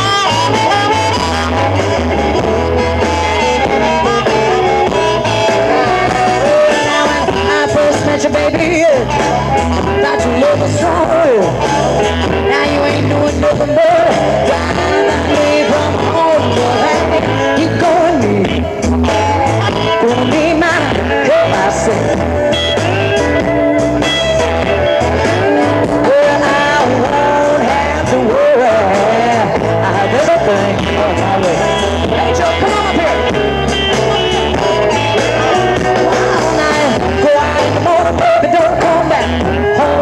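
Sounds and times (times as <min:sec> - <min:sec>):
blues-rock band playing: 0:00.0 - 0:40.0
electric guitars bending notes: 0:00.0 - 0:40.0.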